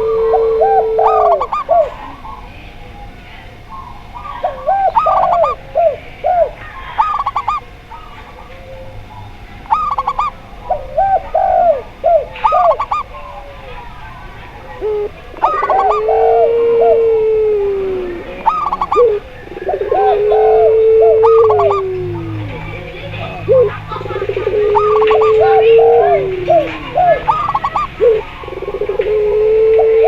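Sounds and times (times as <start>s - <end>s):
doves cooing: 0.0s - 30.0s
long falling dove coo: 0.0s - 30.0s.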